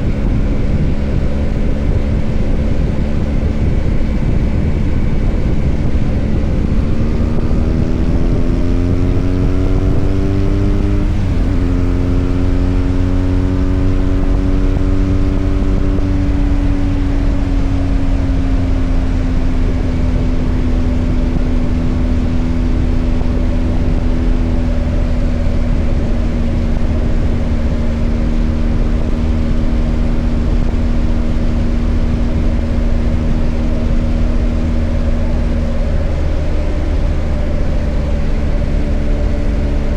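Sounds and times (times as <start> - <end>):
low wind rumble: 0.0 - 39.9
motorcycle engine: 0.0 - 39.9.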